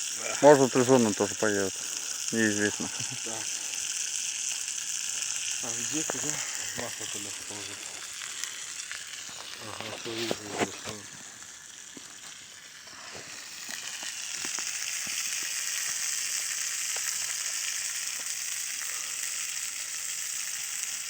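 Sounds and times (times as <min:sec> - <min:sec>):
food sizzling in oil: 0:00.0 - 0:21.0
small crackles: 0:00.0 - 0:21.0.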